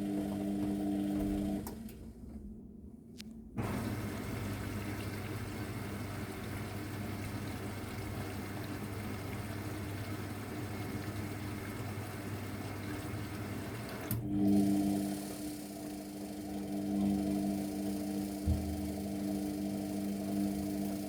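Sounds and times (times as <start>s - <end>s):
water rushing through washing machine: 0.0s - 2.1s, 3.6s - 21.0s
low electric motor hum: 0.0s - 2.6s, 3.6s - 21.0s.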